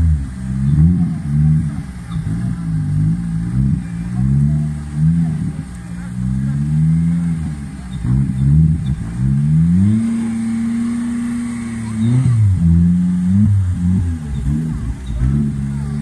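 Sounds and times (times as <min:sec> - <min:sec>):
off-road engine revving hard: 0:00.0 - 0:16.0.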